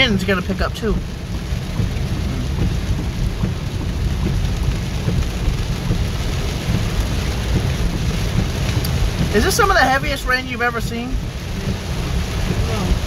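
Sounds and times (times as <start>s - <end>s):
heavy rain pounding on car: 0.0s - 13.0s
low rumble: 0.0s - 13.0s.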